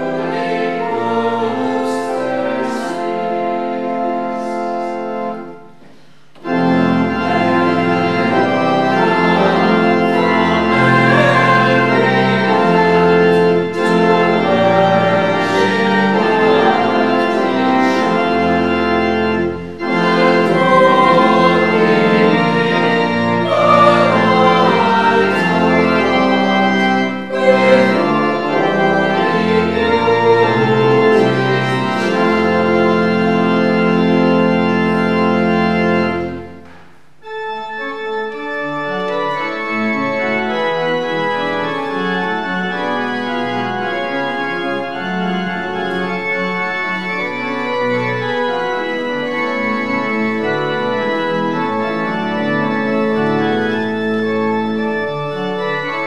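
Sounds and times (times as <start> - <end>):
church organ playing hymn: 0.0 - 56.0.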